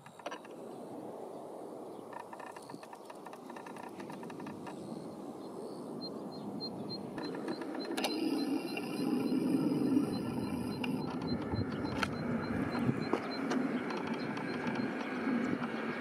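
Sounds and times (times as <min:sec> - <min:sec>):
jet airliner rumble: 0:00.0 - 0:16.0.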